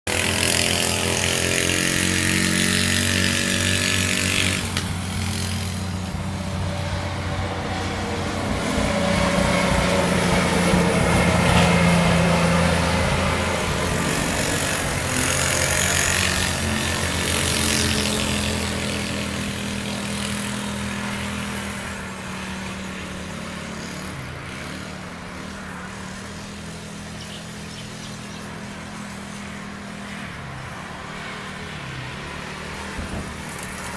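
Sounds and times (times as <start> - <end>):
small buggy engine revving: 0.1 - 33.9.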